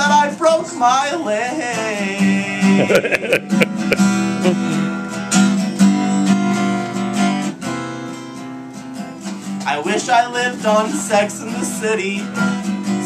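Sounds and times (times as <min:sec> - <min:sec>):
acoustic guitar strumming chords: 0:01.7 - 0:13.0.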